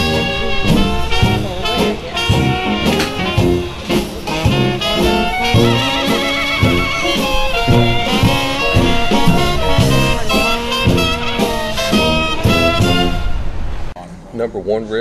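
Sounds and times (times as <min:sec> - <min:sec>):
upbeat jazz with brass: 0:00.0 - 0:13.6.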